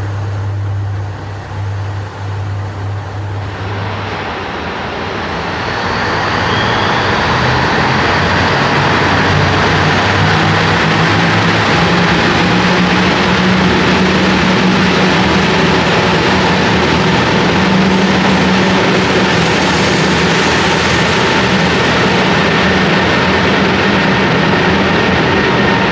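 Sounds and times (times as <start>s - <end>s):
diesel railcar engine drone: 0.0s - 25.9s
moving train rumble: 0.0s - 25.9s.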